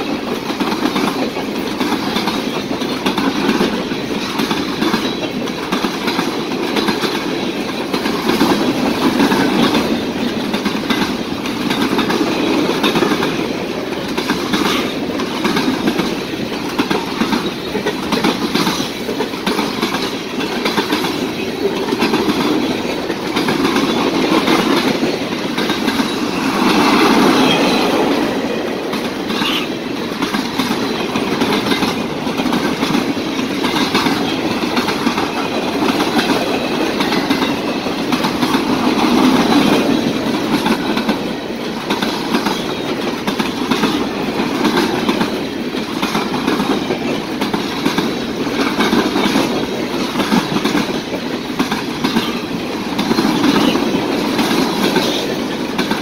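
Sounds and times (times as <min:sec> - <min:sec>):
rumble of train wheels on rails: 0:00.0 - 0:56.0
wheels clicking over rail joints: 0:00.0 - 0:56.0.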